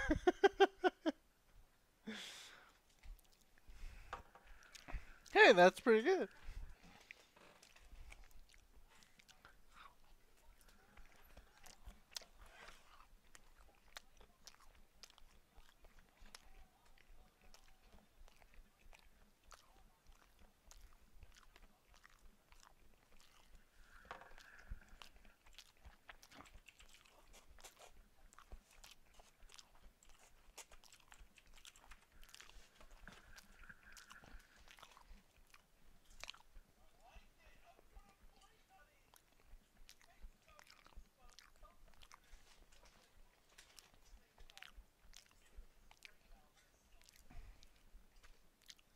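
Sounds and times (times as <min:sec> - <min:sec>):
food chewing with mouth closed: 0:00.0 - 0:05.4, 0:06.2 - 0:48.9.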